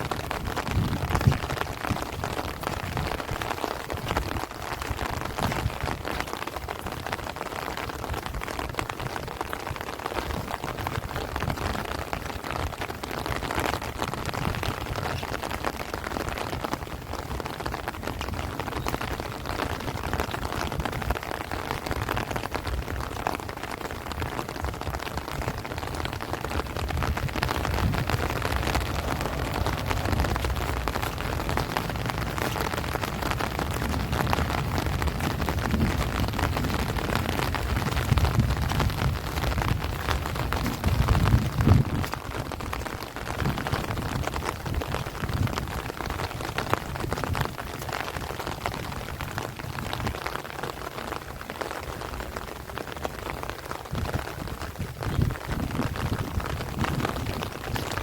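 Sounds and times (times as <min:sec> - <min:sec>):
heavy rain on leaves: 0:00.0 - 0:58.0
wind rumble: 0:00.0 - 0:58.0.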